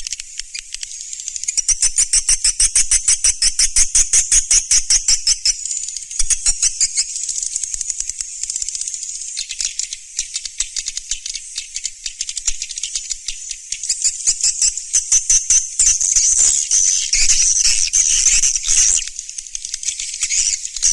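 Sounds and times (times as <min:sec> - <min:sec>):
swiftlet chirps and twitters: 0:00.0 - 0:08.0, 0:09.2 - 0:20.9.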